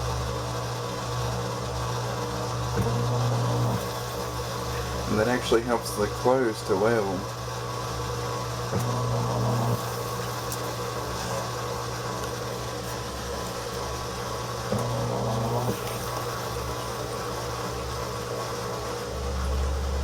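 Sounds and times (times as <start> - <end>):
washing machine motor humming: 0.0 - 20.0
washing machine motor revving: 0.0 - 20.0.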